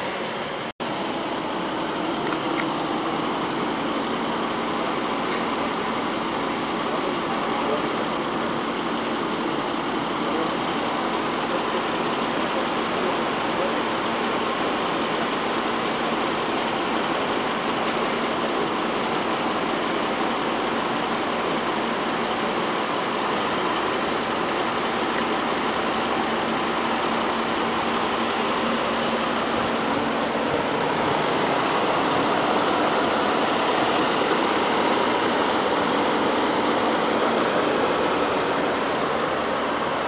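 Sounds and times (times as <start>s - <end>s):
outdoor noise: 0.0s - 40.0s
vehicle engine idling: 0.0s - 40.0s.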